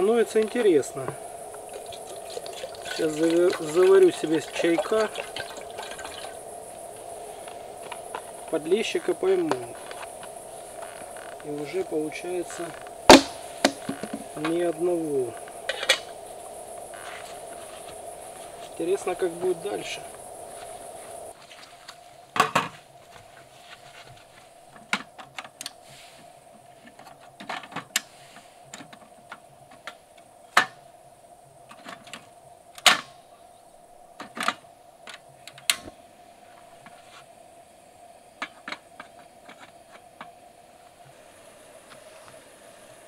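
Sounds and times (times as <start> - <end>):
faint steady drone: 0.0 - 43.0.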